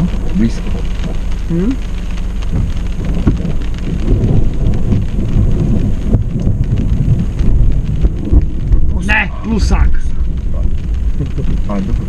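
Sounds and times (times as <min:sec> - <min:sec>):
steady falling rain: 0:00.0 - 0:12.0
thunder rumbling: 0:00.0 - 0:12.0.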